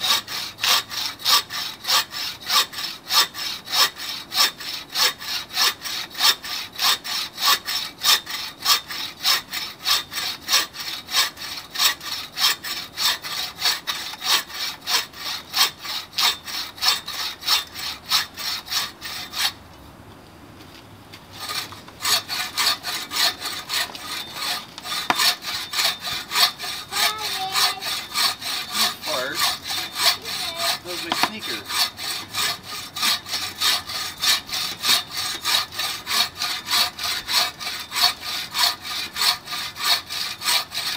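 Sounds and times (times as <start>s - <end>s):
saw rasping through log: 0.0s - 19.6s, 21.3s - 40.9s.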